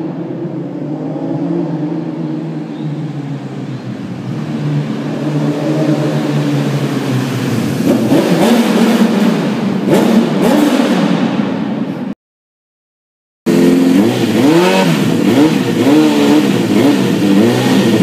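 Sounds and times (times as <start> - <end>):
motorcycle engine revving: 0.0 - 11.9, 13.5 - 18.0.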